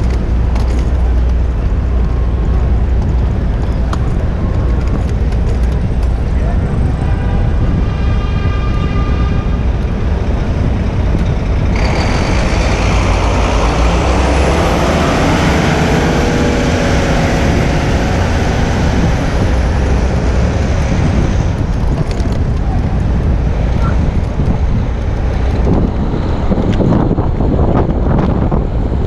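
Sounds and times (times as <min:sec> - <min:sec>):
heavy vehicle rumbling past: 0:00.0 - 0:29.0.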